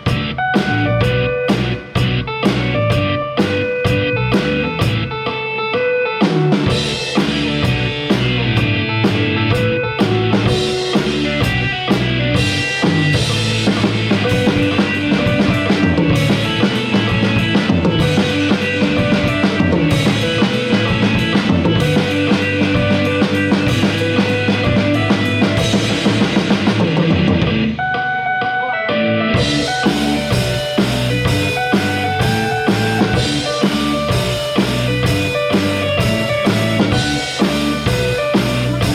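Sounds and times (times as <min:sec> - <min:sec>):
electric guitar: 0:00.0 - 0:38.9
rock drum kit: 0:00.0 - 0:38.9.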